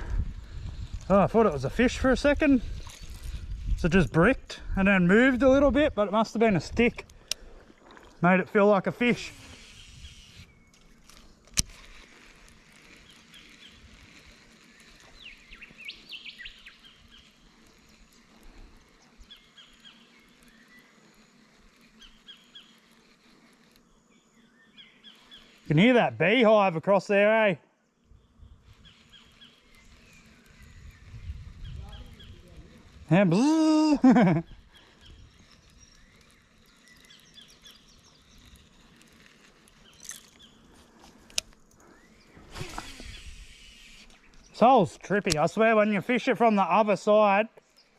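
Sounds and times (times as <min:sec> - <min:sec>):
wild birds chirping: 0:05.0 - 0:47.9.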